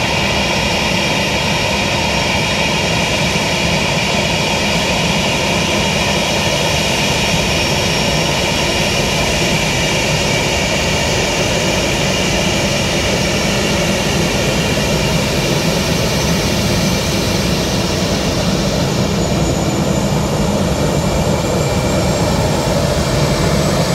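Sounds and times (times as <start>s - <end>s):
jet engines at low thrust: 0.0s - 23.9s.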